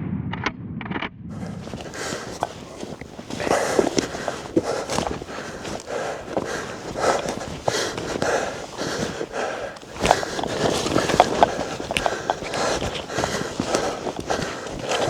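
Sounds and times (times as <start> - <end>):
footsteps through deep snow: 1.4 - 15.0.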